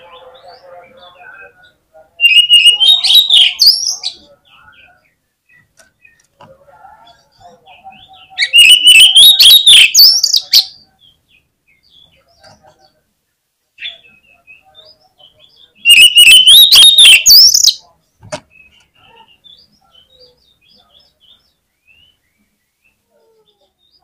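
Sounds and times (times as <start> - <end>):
magpie-robin song: 0.0 - 13.0, 13.8 - 24.0.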